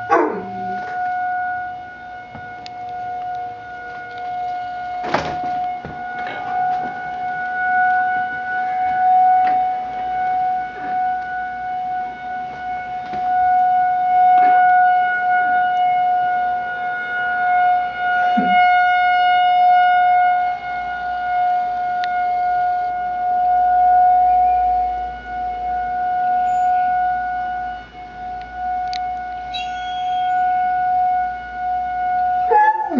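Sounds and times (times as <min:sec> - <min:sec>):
emergency warning siren: 0:00.0 - 0:32.9.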